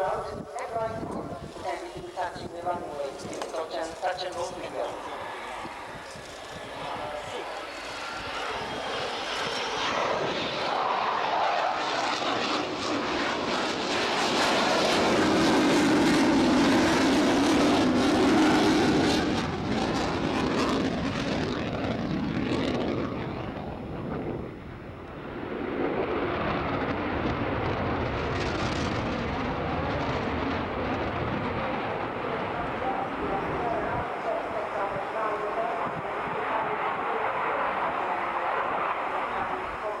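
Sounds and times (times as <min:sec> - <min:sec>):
jet aircraft passing: 0:00.0 - 0:40.0.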